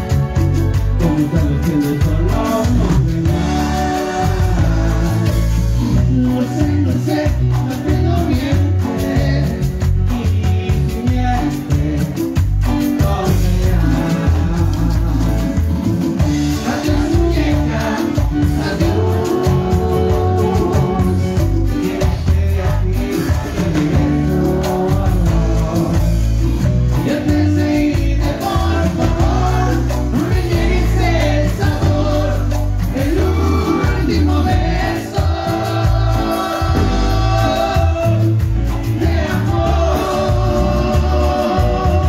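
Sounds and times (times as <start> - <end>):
live band playing: 0.0 - 42.0
person singing: 0.0 - 42.0.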